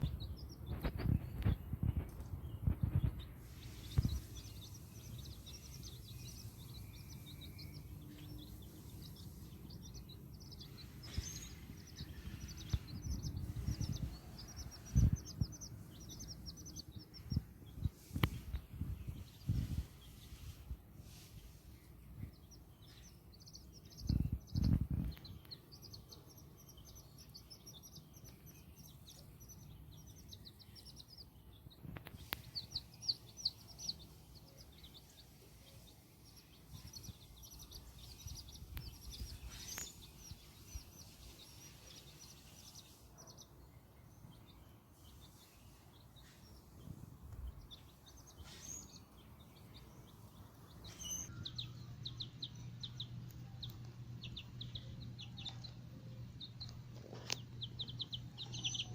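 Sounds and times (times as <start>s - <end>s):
chicks peeping: 0.0s - 58.9s.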